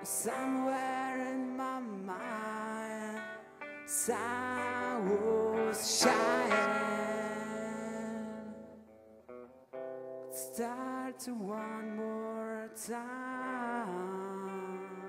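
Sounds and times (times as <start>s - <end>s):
electric guitars sustained notes: 0.0s - 15.0s.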